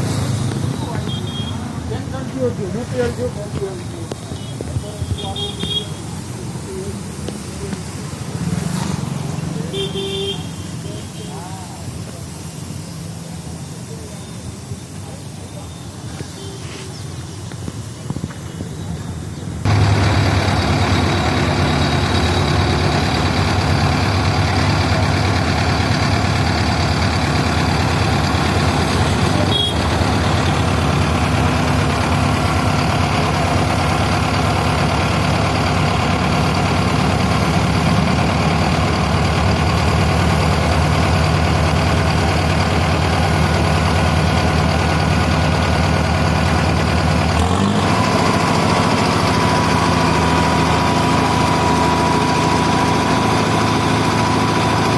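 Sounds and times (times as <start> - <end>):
drilling rig engine running: 0.0 - 54.9.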